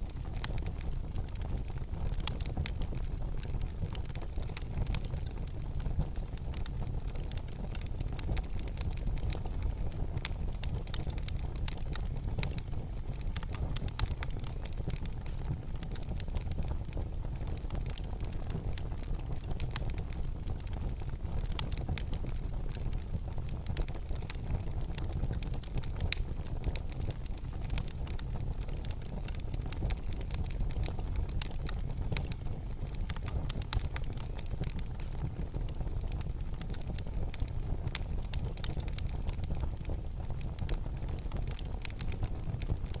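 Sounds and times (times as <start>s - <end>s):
campfire crackling and popping: 0.0s - 43.0s
low rumble of flame: 0.0s - 43.0s.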